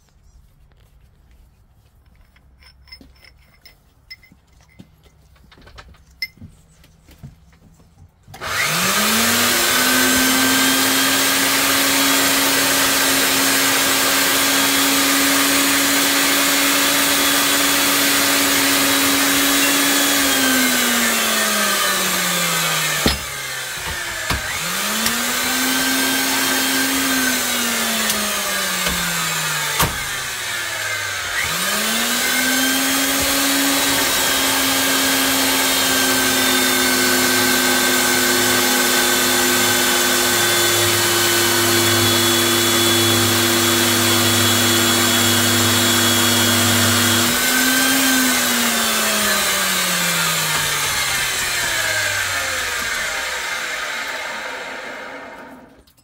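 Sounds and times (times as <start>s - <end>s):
electric motor whining: 8.4s - 55.9s.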